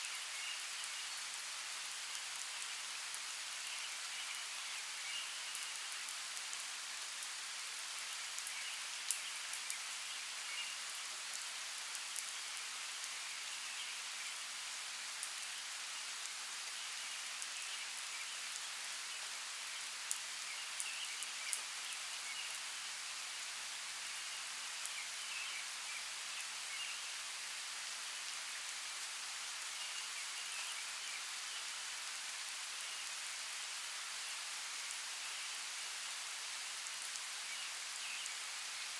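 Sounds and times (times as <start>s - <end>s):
rain falling on forest: 0.0s - 38.9s.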